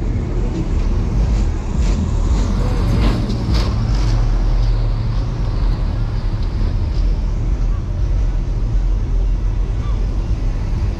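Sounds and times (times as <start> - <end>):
car engine droning at low speed: 0.0 - 10.9.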